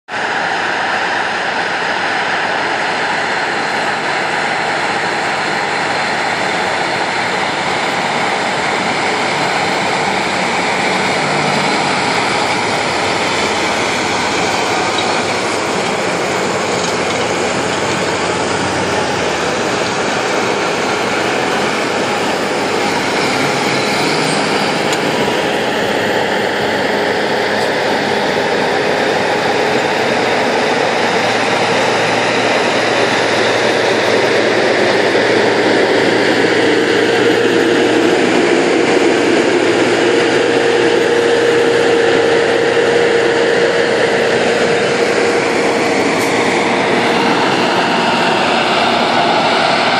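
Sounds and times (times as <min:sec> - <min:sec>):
tractor diesel engines running: 0:00.1 - 0:49.9
tillage implements through soil: 0:03.8 - 0:49.9.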